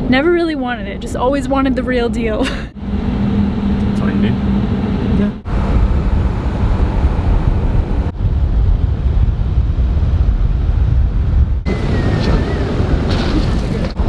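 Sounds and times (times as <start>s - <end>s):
road and engine rumble: 0.0s - 14.0s
wind buffeting microphone: 0.0s - 14.0s.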